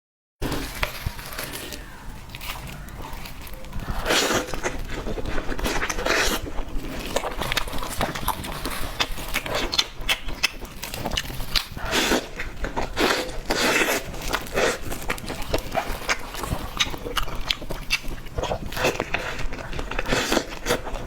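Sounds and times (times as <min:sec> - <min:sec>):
chewing cake: 0:00.4 - 0:21.0.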